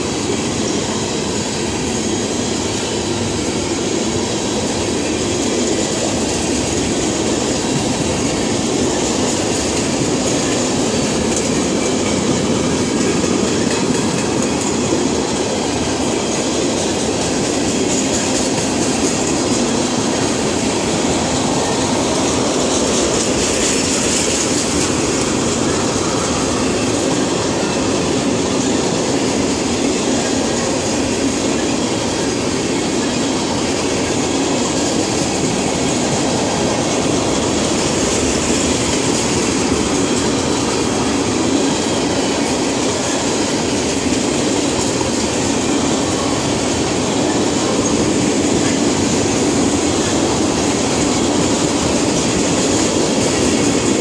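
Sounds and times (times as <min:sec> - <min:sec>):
freight train wheels rushing on rails: 0:00.0 - 0:54.0.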